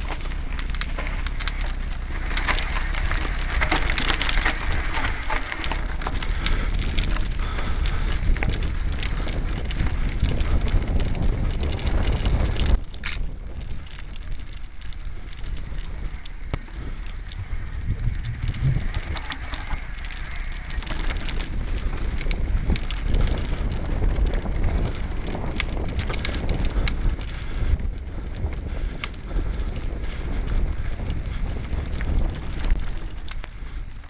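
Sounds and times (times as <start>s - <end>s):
bike rattling and clicking: 0.0s - 34.0s
wind rumble on microphone: 0.0s - 34.0s.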